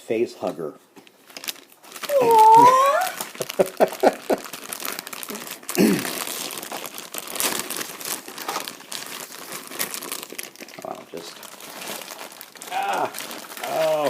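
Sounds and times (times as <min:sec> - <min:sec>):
plastic packaging crinkling: 0:01.0 - 0:14.0.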